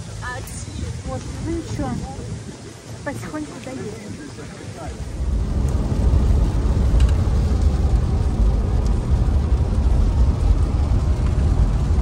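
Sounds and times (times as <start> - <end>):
car road and wind rumble: 0.0 - 12.0.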